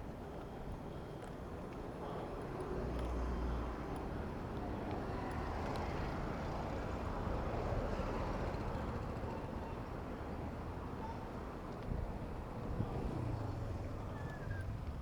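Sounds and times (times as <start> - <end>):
city traffic rumble: 0.1 - 15.0.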